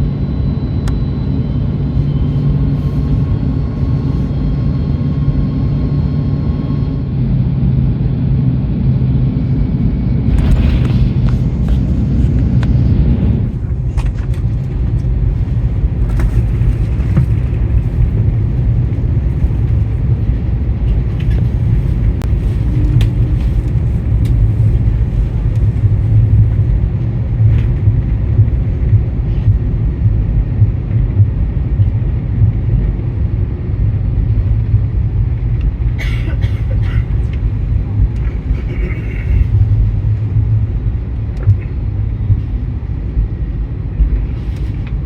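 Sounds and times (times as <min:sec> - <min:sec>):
airliner rolling on ground: 0:00.0 - 0:45.0.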